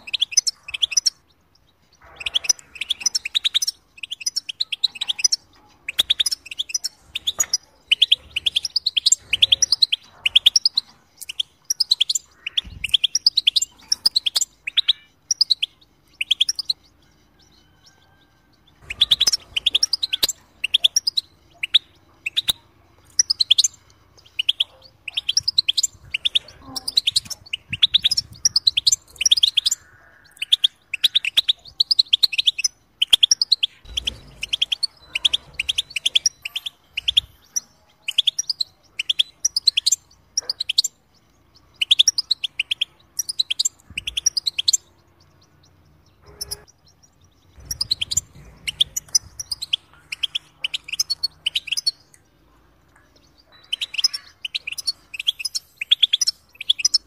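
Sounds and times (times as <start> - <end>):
bird twittering chirps: 0.0 - 57.0.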